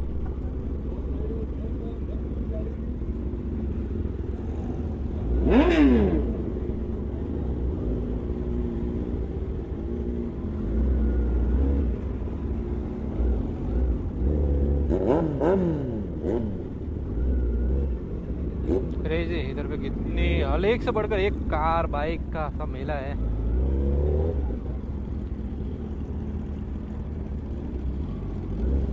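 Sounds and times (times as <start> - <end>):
engines revving: 0.0 - 28.9.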